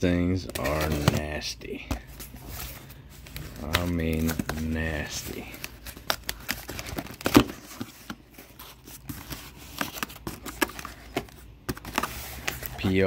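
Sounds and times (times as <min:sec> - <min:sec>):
cardboard flaps rustling: 0:00.4 - 0:13.0.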